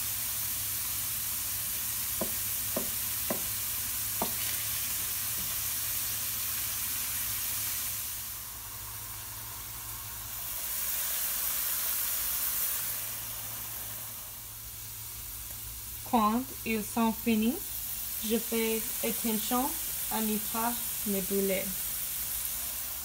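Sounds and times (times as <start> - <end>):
fries sizzling in hot oil: 0.0 - 23.0.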